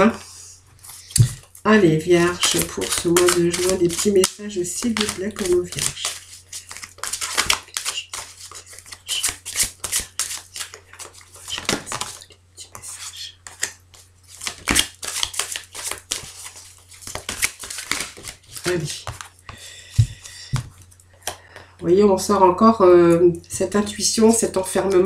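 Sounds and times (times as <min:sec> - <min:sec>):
cards being shuffled: 0:00.8 - 0:21.4.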